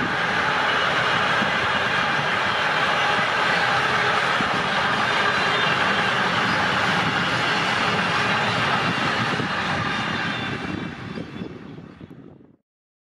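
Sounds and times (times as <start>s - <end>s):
train wheels rolling on rails: 0.0s - 12.2s.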